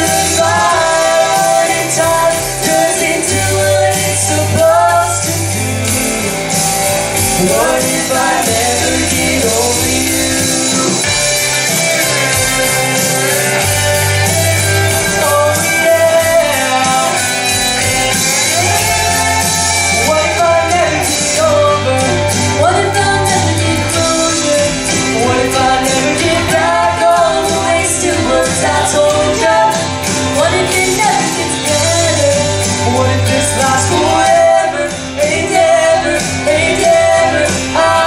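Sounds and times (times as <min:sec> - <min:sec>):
man and woman singing duet: 0:00.0 - 0:11.4, 0:14.7 - 0:38.0
instrumental accompaniment: 0:00.0 - 0:38.0
steady bass line: 0:00.0 - 0:38.0.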